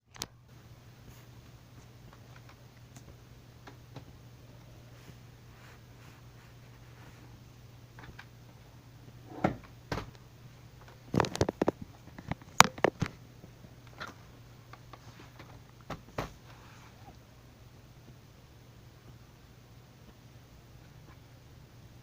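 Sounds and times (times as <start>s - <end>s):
faint low hum: 0.1s - 22.0s.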